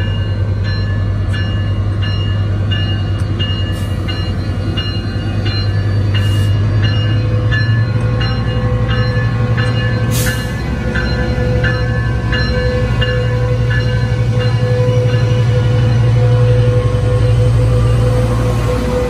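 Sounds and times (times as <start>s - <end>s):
locomotive bell ringing: 0.0s - 19.0s
locomotive engine humming: 0.0s - 19.0s.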